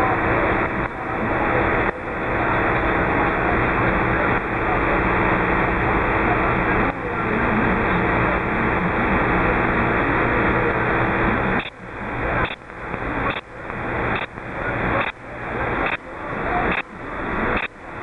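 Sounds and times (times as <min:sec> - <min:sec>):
low hum: 0:00.0 - 0:18.0
radio static hiss: 0:00.0 - 0:18.0.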